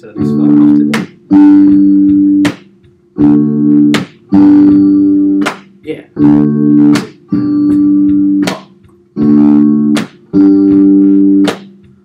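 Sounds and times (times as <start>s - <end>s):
electric guitar strumming chords: 0.0s - 12.0s
sharp beat hits: 0.0s - 12.0s.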